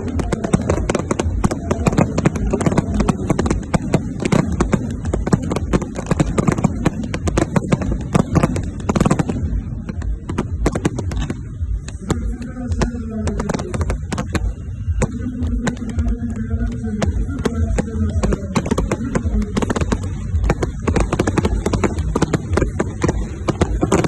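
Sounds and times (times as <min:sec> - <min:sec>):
fireworks crackling and popping: 0:00.0 - 0:24.0
voices: 0:00.0 - 0:24.0.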